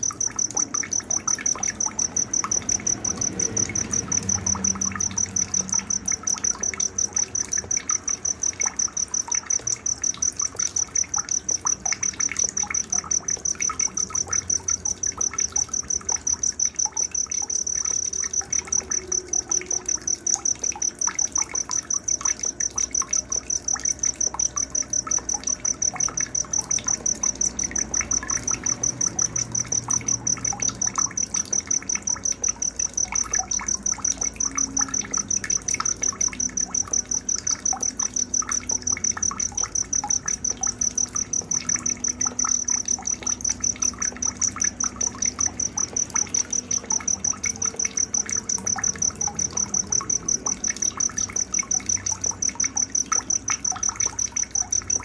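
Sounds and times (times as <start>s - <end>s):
cricket chirping: 0.0s - 55.0s
faint water trickle: 0.0s - 55.0s.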